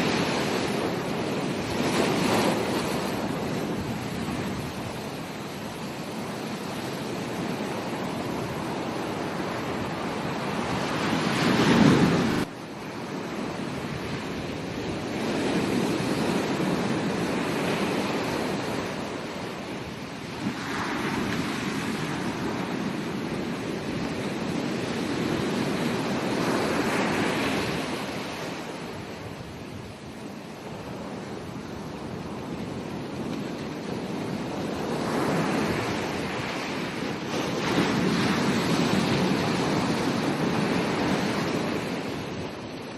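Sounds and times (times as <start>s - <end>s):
ocean waves breaking on beach: 0.0s - 42.9s.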